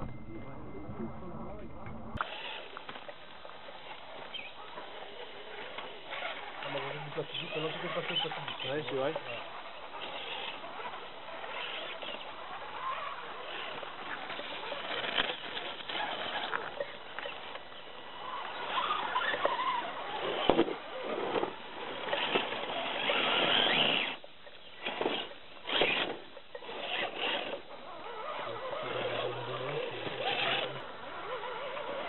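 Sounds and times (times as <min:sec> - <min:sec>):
toy trucks scrabbling over rocks: 0:02.2 - 0:32.0.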